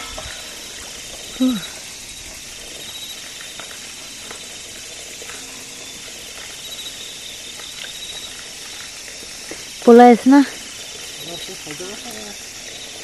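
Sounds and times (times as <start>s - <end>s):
insects and frogs trilling: 0.0s - 13.0s.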